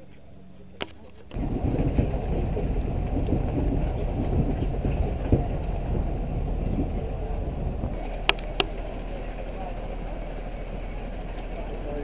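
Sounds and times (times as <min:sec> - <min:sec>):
wind buffeting microphone: 0:01.3 - 0:12.0.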